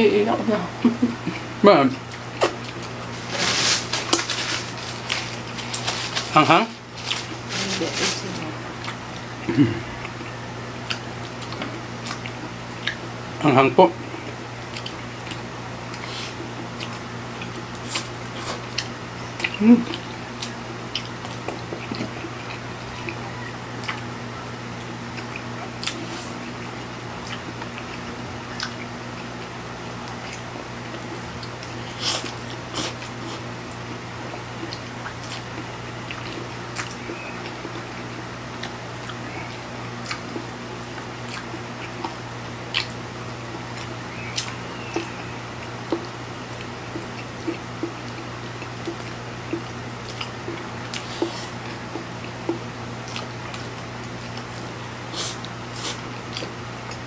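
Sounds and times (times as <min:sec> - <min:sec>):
low steady hum: 0:00.0 - 0:57.0
people chewing noodles: 0:00.8 - 0:13.1, 0:14.0 - 0:57.0.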